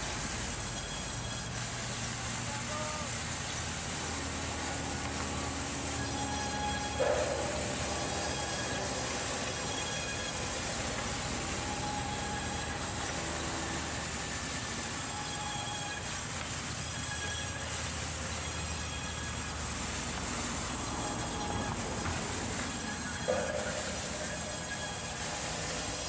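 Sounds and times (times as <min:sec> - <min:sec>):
band saw blade hissing: 0:00.0 - 0:26.0
faint whining tones: 0:00.0 - 0:26.0
sawmill machinery noise: 0:00.0 - 0:26.0.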